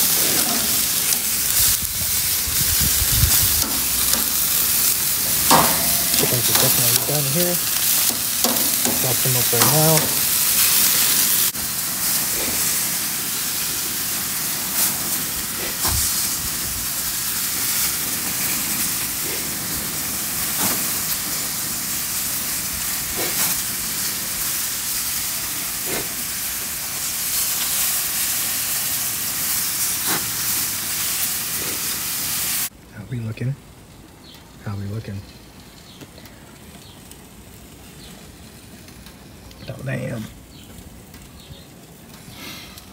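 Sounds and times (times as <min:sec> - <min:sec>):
meat sizzling on a grill: 0:00.0 - 0:42.9.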